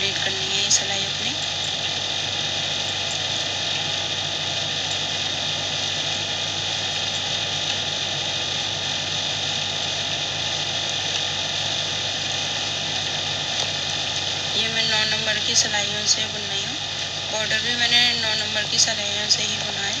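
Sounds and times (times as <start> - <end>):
machine drone with low hum: 0.0 - 20.0.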